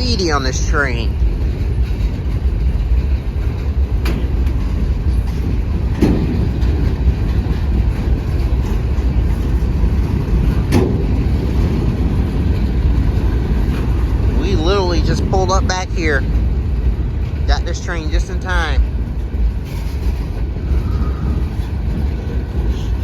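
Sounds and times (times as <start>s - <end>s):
freight cars rumbling past: 0.0s - 23.0s
train cars clanking: 0.0s - 23.0s.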